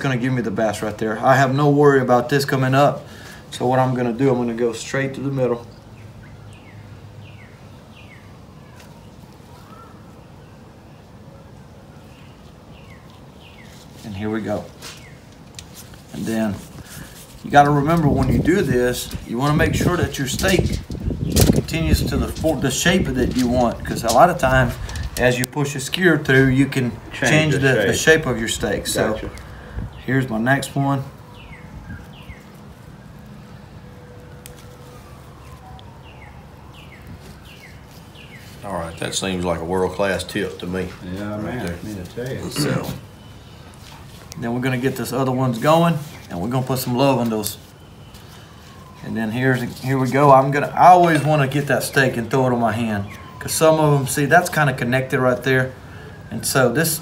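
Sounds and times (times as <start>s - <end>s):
low outdoor background hum: 0.0s - 57.0s
bird chirping: 2.4s - 55.0s.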